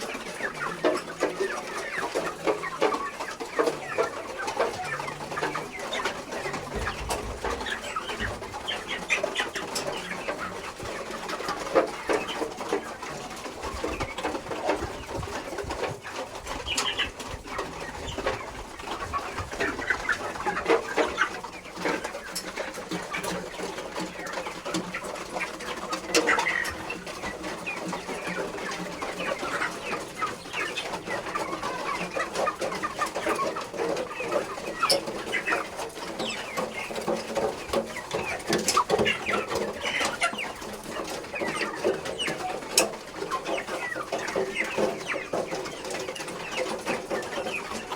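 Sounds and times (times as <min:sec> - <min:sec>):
chickens clucking and chirping: 0:00.0 - 0:47.9.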